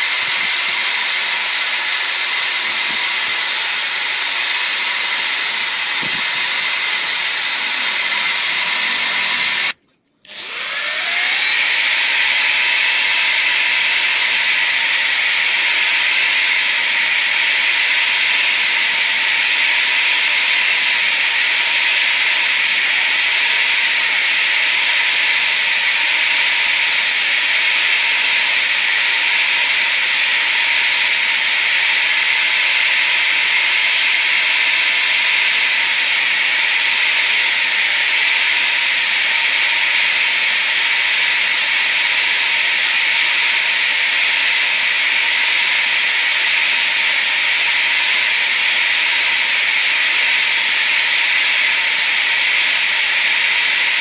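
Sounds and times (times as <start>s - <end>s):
electric drill boring wood: 0.0s - 54.0s.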